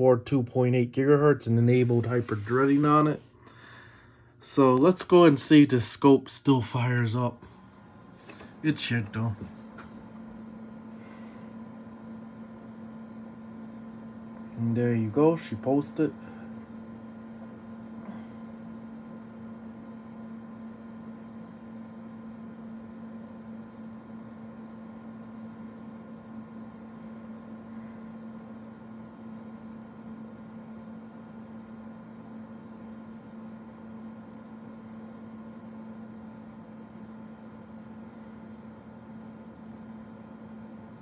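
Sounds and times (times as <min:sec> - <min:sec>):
cooling fans humming: 0:00.0 - 0:41.0.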